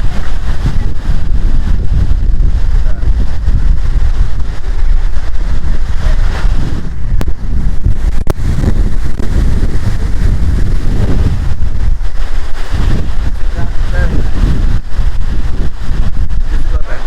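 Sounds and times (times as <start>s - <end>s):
waterfall rushing: 0.0s - 17.0s
wind buffeting microphone: 0.0s - 17.0s.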